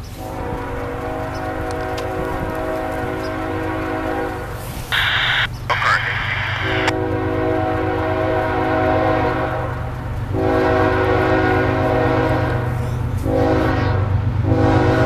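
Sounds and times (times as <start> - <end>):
train rumble: 0.0 - 15.0
locomotive air horn blasts: 0.2 - 5.5, 6.6 - 15.0.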